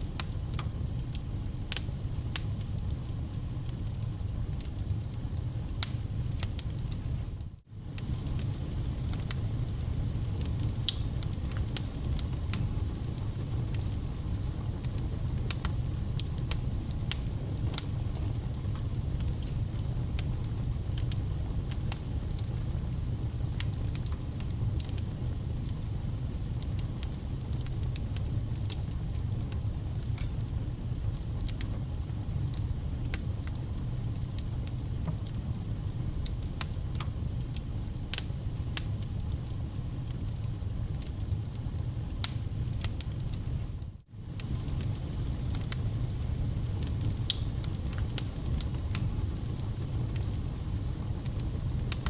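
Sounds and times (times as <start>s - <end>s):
fire crackling and popping: 0.0s - 52.0s
low rumble of flame: 0.0s - 52.0s.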